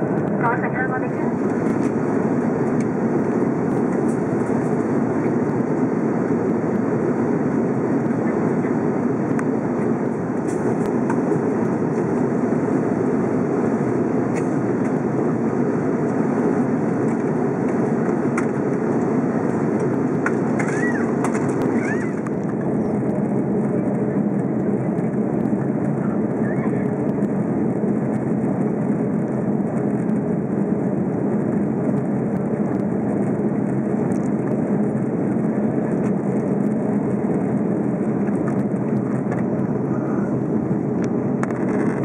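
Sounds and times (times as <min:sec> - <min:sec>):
airplane cabin engine and airflow rush: 0:00.0 - 0:42.0.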